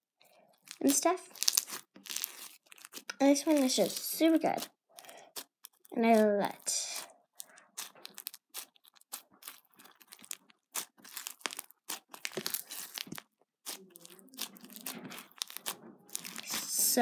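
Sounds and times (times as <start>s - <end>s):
foam beads crackling and popping: 0.5s - 17.0s
slime being squished by hand: 0.6s - 17.0s.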